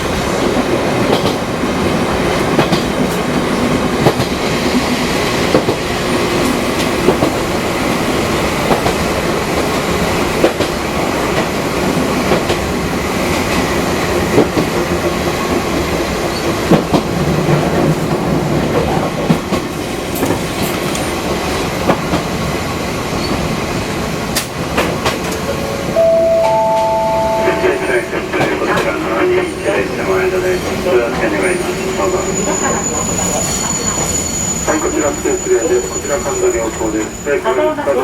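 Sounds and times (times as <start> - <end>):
electric train rumbling: 0.0 - 38.0.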